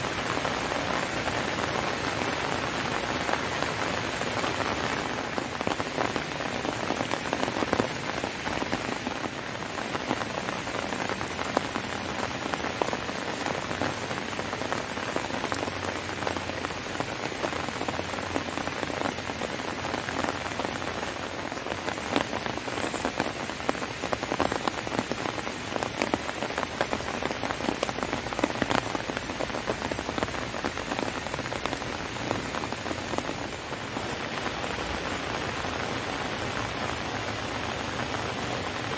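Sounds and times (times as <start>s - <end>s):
heavy rain falling: 0.0s - 38.9s
raindrops ticking on a surface: 0.0s - 38.9s.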